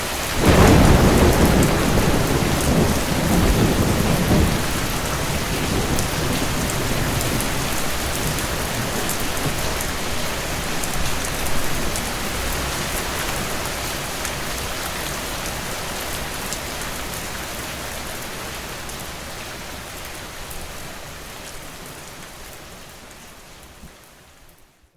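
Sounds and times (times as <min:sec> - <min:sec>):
rain falling on a surface: 0:00.0 - 0:24.9.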